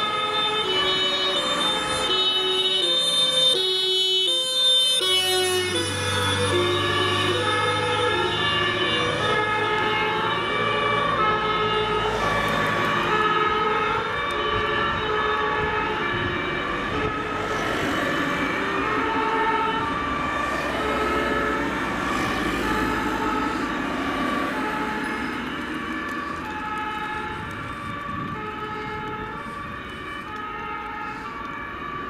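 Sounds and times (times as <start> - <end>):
truck engines running: 0.0 - 32.0
two-tone fire engine sirens: 0.0 - 32.0.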